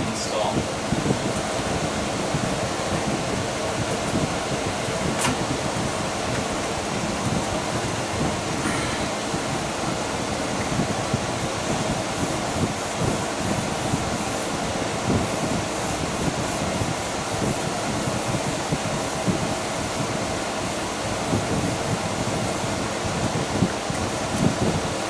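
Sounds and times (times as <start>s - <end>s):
air conditioner rushing: 0.0s - 25.0s.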